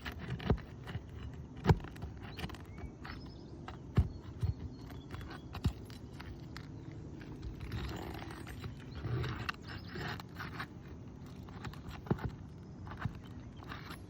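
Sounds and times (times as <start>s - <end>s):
metal tool scraping under shingles: 0.0s - 14.0s.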